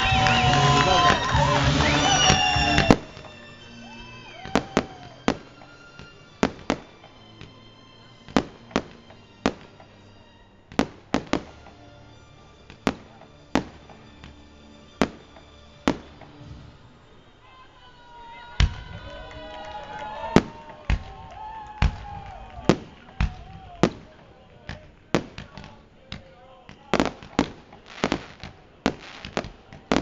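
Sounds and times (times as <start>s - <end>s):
fireworks bangs: 0.0s - 17.4s, 18.4s - 30.0s.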